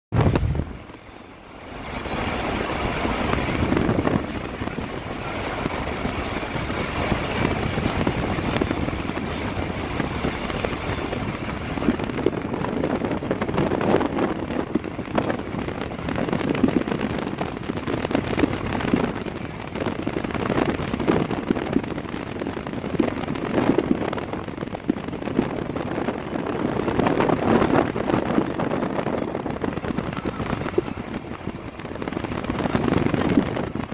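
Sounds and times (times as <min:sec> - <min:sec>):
vehicle wind and road noise: 0:00.1 - 0:33.9.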